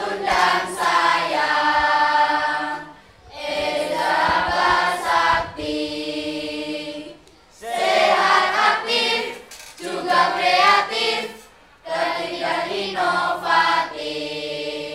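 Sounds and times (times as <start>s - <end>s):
choir singing: 0.0s - 14.9s.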